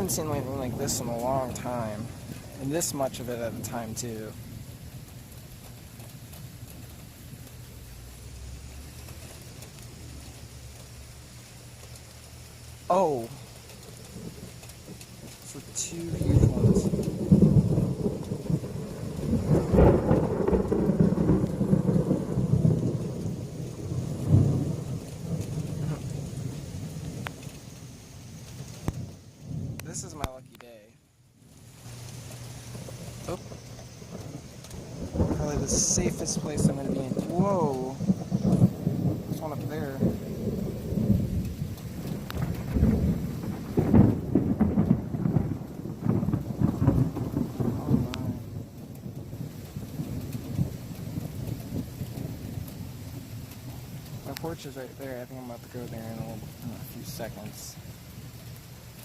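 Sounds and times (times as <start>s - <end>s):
thunder rolling and rumbling: 0.0s - 11.2s, 12.9s - 30.4s, 31.8s - 59.0s
rain falling: 0.0s - 59.0s.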